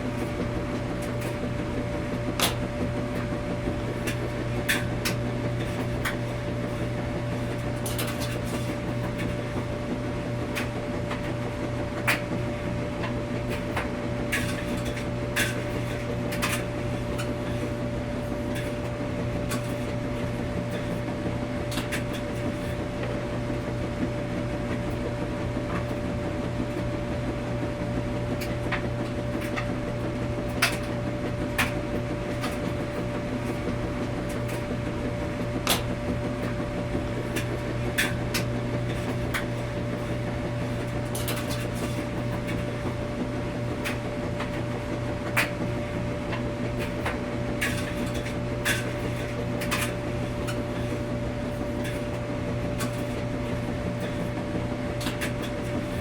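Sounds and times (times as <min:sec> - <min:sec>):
washing machine humming: 0:00.0 - 0:56.0.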